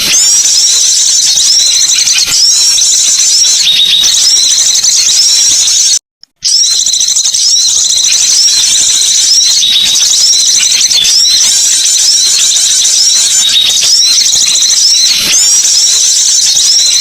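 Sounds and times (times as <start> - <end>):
small birds chattering: 0.0 - 17.0.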